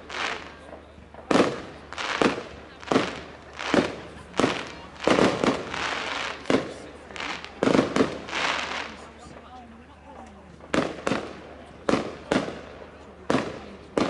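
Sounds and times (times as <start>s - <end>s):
fireworks bangs: 0.0s - 9.5s, 10.6s - 14.0s
fireworks rumble and crackle: 0.0s - 14.0s.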